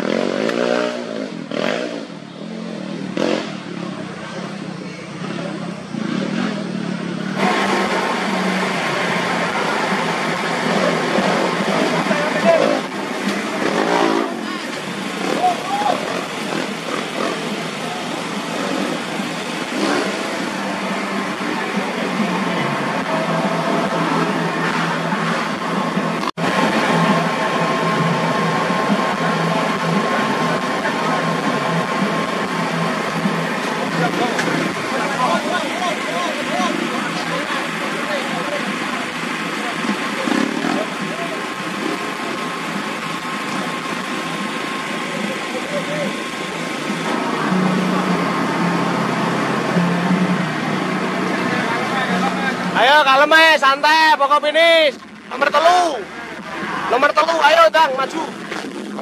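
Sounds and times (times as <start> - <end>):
dirt bike engine revving: 0.0 - 53.6.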